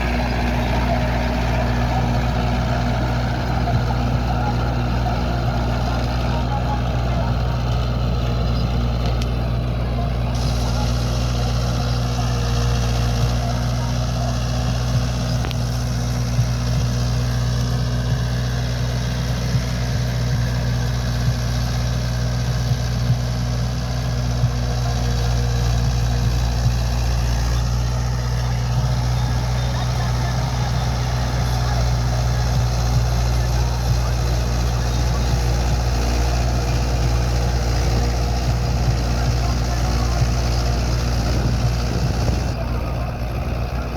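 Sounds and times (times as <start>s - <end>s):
tractor diesel engine droning: 0.0s - 43.9s.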